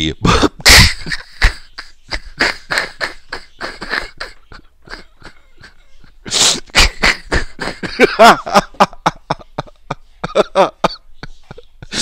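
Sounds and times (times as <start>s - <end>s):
man laughing hard: 0.2s - 12.0s.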